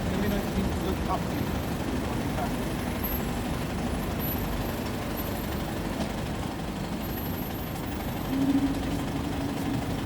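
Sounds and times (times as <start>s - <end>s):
heavy traffic rumble: 0.0s - 10.0s.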